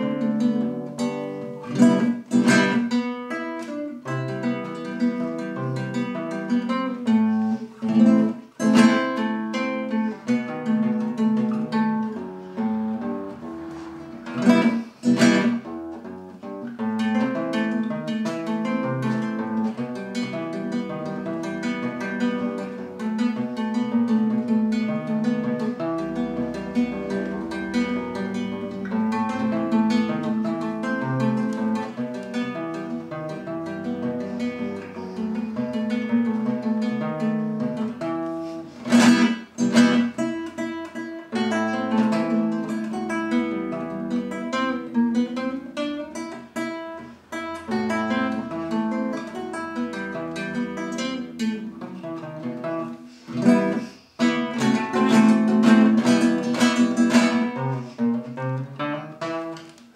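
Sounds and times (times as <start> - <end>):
classical guitar playing: 0.0 - 59.9.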